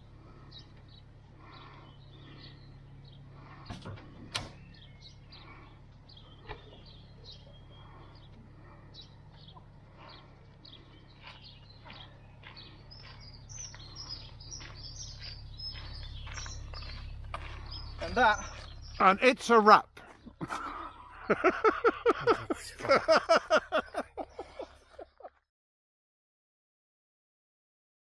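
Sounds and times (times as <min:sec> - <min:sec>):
steady low rumble: 0:00.0 - 0:24.6
small birds singing and chirping: 0:00.0 - 0:25.2.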